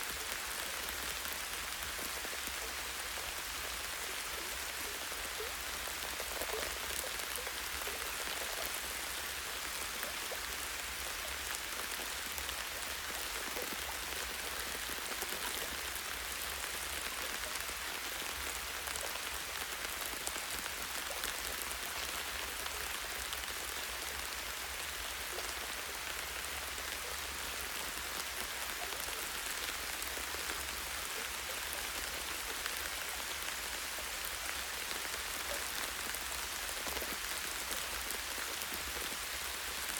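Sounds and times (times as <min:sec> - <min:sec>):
light rain on leaves: 0:00.0 - 0:39.9.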